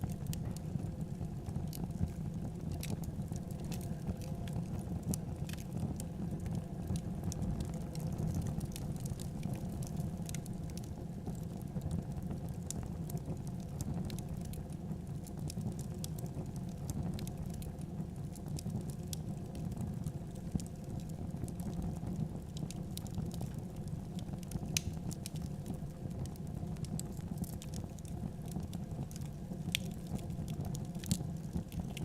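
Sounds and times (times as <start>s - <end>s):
fire crackling: 0.0s - 32.0s
low rumble of flames: 0.0s - 32.0s.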